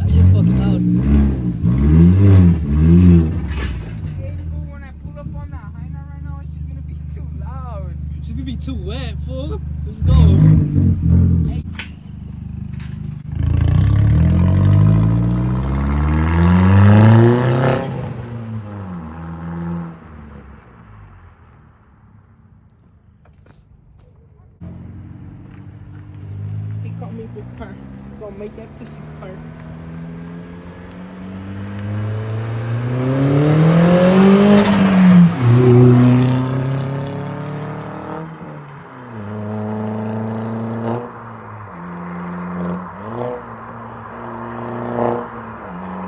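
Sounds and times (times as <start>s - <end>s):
car engine accelerating hard: 0.0s - 21.5s, 24.6s - 46.0s.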